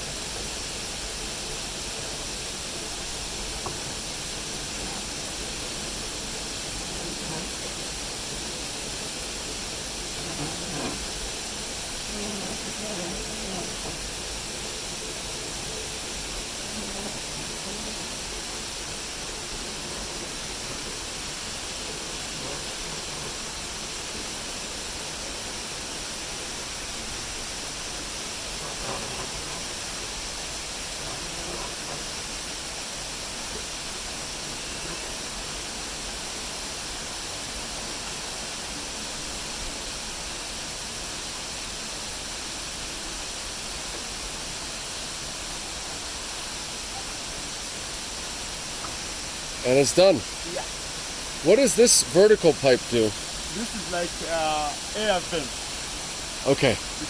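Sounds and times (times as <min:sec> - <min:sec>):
rushing hissing water: 0:00.0 - 0:57.0.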